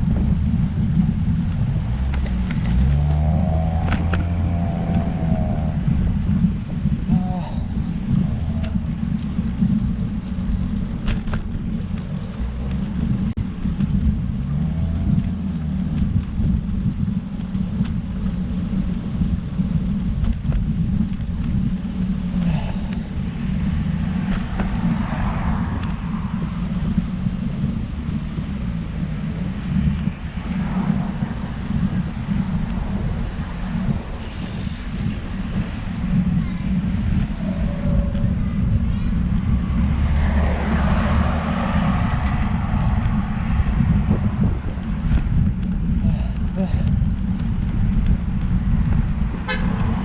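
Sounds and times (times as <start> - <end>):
road tyre noise: 0.0 - 50.0
wind rumbling on microphone: 0.0 - 50.0.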